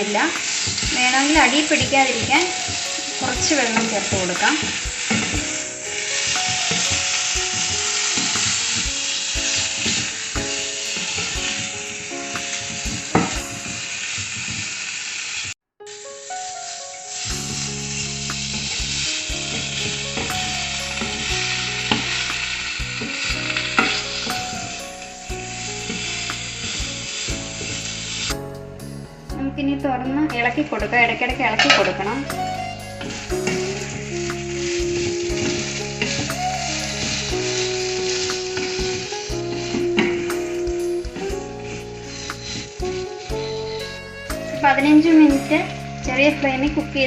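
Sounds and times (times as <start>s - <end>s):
chicken sizzling in a pan: 0.0s - 28.4s, 31.6s - 46.5s.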